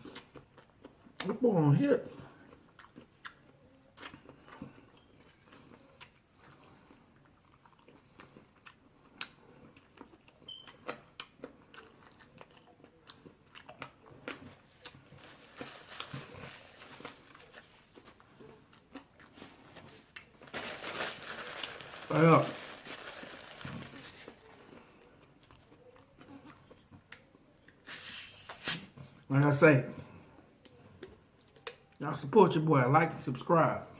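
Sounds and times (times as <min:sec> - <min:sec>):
person chewing food: 0:00.0 - 0:01.4, 0:02.1 - 0:27.9, 0:30.1 - 0:32.0.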